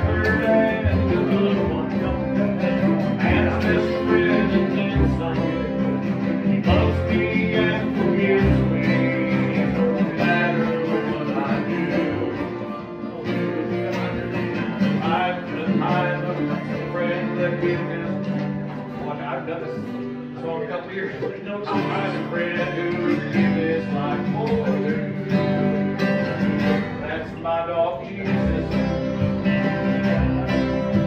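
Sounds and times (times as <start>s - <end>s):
acoustic string band playing: 0.0s - 31.0s.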